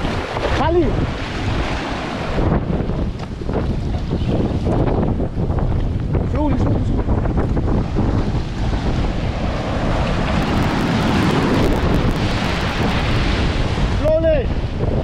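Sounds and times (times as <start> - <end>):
wave breaking and washing in: 0.0 - 5.5, 6.1 - 15.0
heavy surf: 0.0 - 15.0
strong wind buffeting microphone: 0.0 - 15.0.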